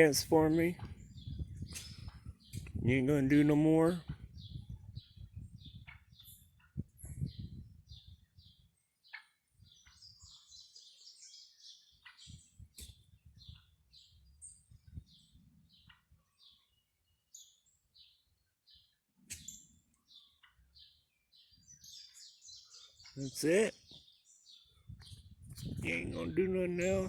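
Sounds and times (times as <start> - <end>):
faint bird chirping: 3.4 - 27.0.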